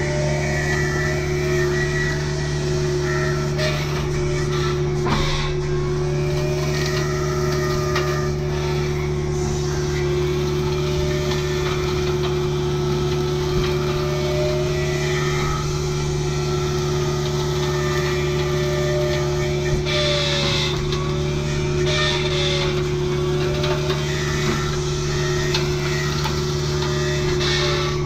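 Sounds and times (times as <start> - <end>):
diesel engine under load: 0.0 - 28.0
hydraulic brush cutter whine: 0.0 - 28.0.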